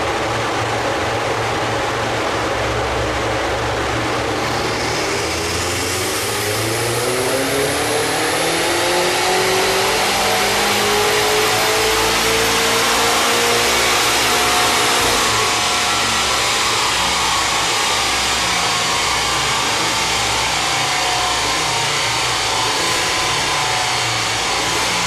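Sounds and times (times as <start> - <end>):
cooling fan and rollers rushing: 0.0 - 25.0
car engine revving: 2.6 - 25.0.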